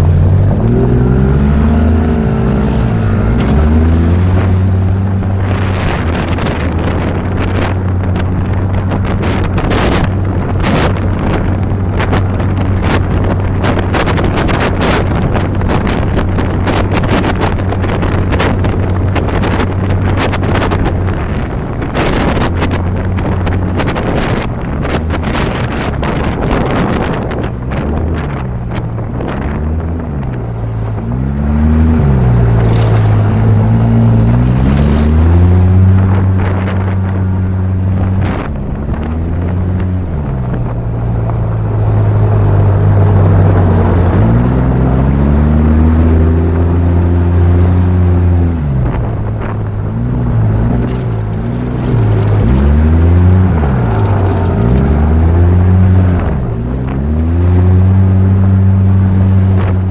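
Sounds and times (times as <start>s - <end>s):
engine revving: 0.0s - 59.9s
wind buffeting microphone: 0.0s - 59.9s.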